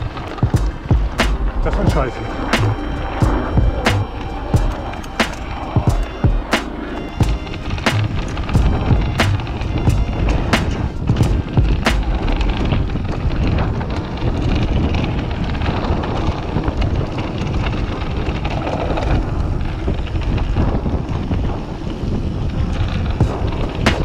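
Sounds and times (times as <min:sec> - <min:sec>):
low rumble of bike riding: 0:00.0 - 0:24.0
wind buffeting microphone: 0:00.0 - 0:24.0.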